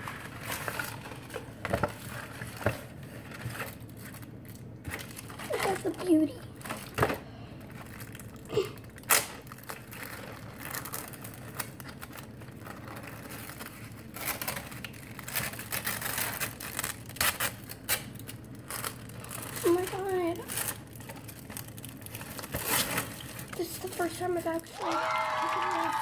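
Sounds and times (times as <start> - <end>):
plastic film peeling and crinkling: 0.0 - 24.6.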